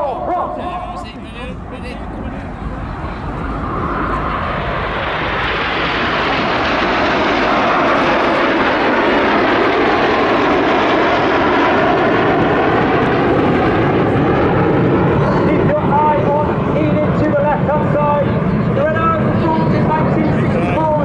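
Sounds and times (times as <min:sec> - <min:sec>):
jets flying past: 0:00.0 - 0:21.0.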